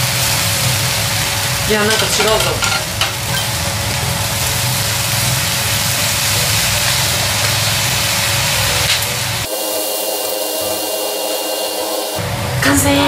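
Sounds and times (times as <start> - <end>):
noodles sizzling in pan: 0.0 - 13.0
background music: 1.2 - 13.0.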